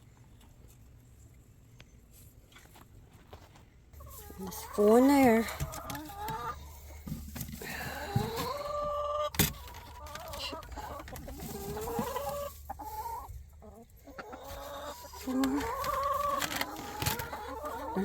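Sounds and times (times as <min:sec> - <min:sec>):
chickens clucking: 0:03.2 - 0:18.0.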